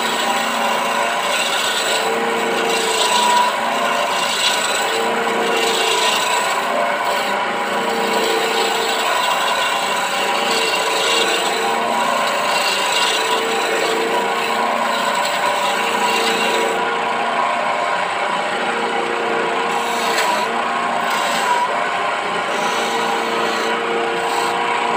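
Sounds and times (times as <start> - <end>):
chisel scraping wood: 0.0 - 24.9
wood lathe running: 0.0 - 24.9.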